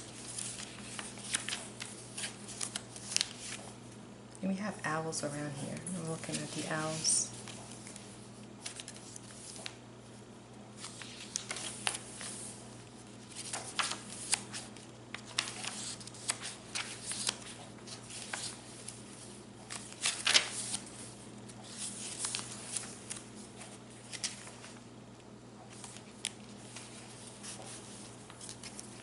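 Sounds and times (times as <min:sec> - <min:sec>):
paper pages rustling: 0:00.0 - 0:03.8, 0:05.5 - 0:09.8, 0:10.8 - 0:24.9, 0:25.6 - 0:29.0
faint steady hum: 0:00.0 - 0:29.0.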